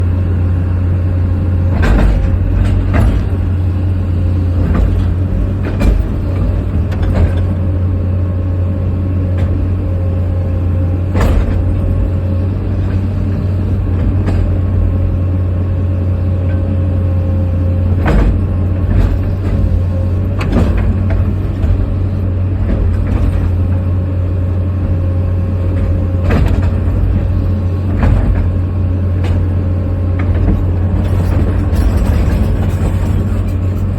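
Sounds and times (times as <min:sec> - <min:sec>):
heavy diesel engine droning: 0:00.0 - 0:33.9.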